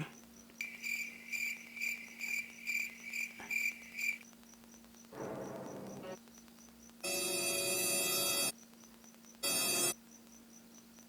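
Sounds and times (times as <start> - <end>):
cricket chirping: 0.0 - 7.0, 8.5 - 11.0.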